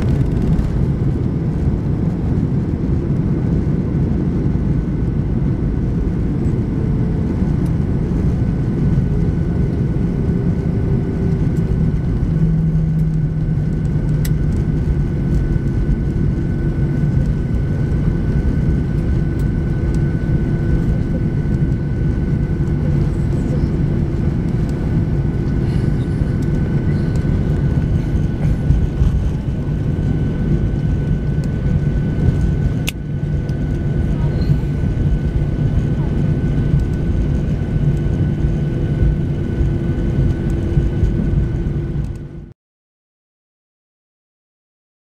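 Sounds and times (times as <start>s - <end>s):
airframe and wheels rumbling: 0.0s - 42.5s
jet engines humming: 0.0s - 42.5s.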